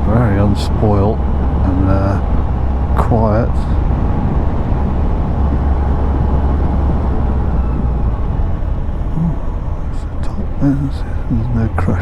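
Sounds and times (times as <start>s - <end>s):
tyre and road noise: 0.0s - 12.0s
wind rumble on microphone: 0.0s - 12.0s.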